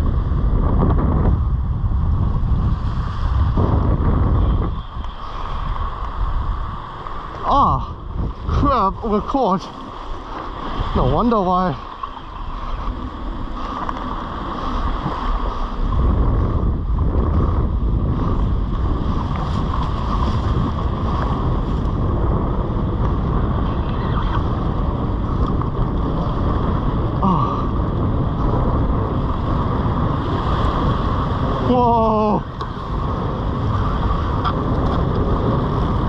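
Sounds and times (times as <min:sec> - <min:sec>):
wind buffeting microphone: 0:00.0 - 0:36.0
surf washing: 0:01.4 - 0:36.0.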